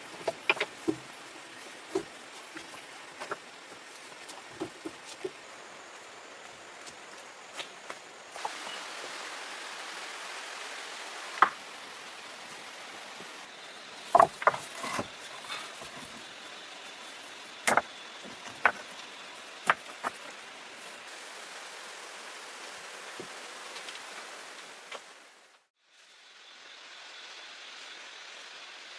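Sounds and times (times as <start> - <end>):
steady outdoor hiss: 0.0 - 28.9.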